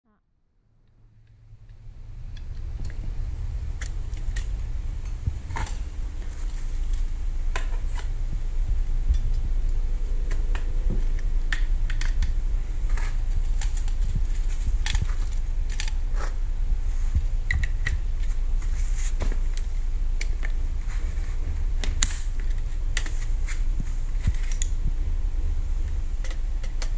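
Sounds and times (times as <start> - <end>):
steady low hum: 0.1 - 26.9.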